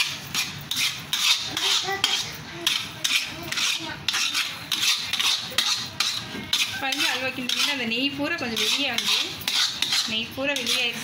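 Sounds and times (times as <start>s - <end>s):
ladle scraping a heavy pan: 0.0s - 11.0s.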